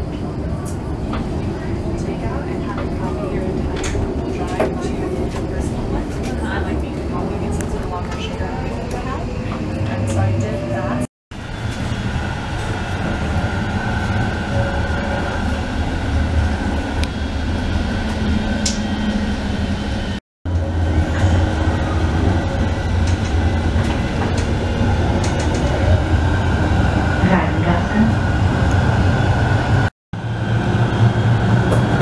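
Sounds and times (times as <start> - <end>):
wheels rumbling on rails: 0.0 - 32.0.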